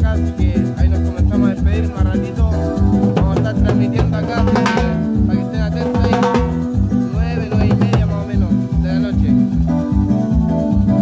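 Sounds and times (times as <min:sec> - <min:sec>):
music with drums bass and guitar: 0:00.0 - 0:11.0.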